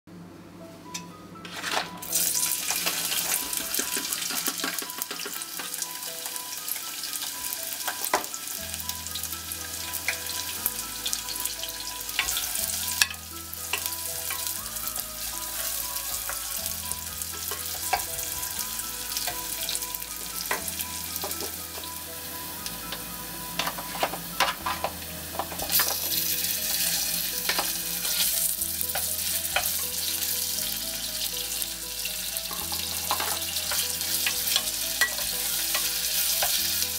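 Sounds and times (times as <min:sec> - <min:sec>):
onion sizzling in oil: 0:01.6 - 0:36.9.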